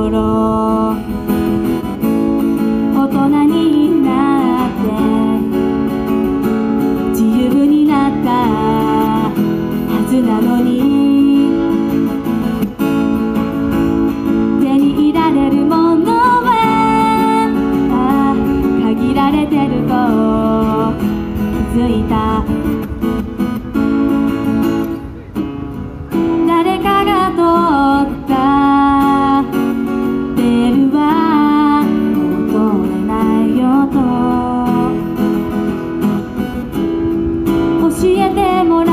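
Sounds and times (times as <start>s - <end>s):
woman singing: 0.0s - 12.4s, 14.3s - 23.0s, 26.1s - 35.6s, 37.5s - 38.9s
strummed acoustic guitar: 0.0s - 38.9s.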